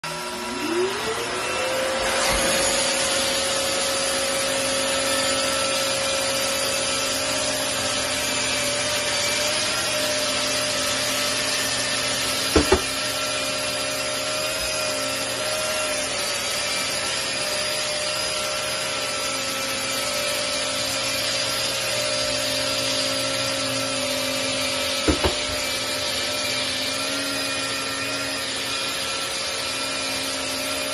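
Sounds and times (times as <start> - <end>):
drywall sander motor whine: 0.0 - 30.9.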